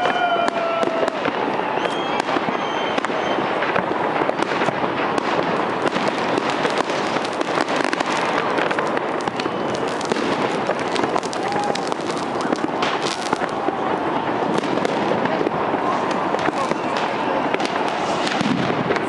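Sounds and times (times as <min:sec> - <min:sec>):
firework whistles: 0:00.0 - 0:19.0
fireworks bangs and crackling: 0:00.0 - 0:19.0.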